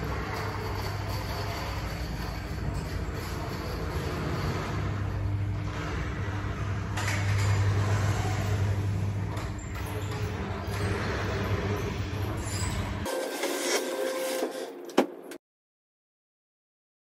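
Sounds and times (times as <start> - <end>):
garage door opener humming: 0.0 - 15.4.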